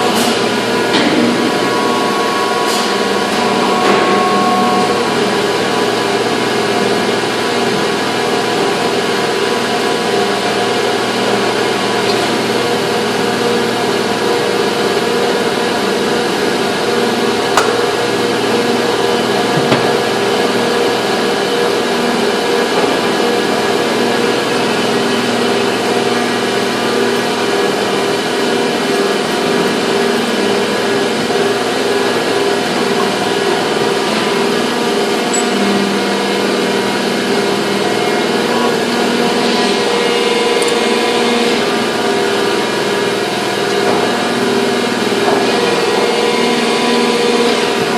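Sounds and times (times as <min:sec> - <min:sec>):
factory machinery drone: 0:00.0 - 0:47.9.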